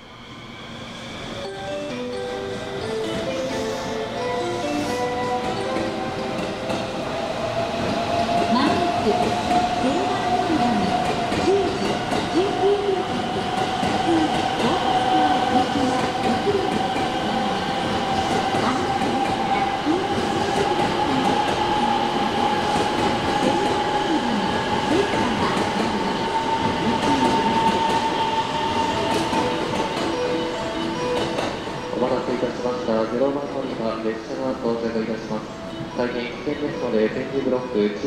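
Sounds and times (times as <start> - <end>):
train rail running noise: 0.0 - 38.0.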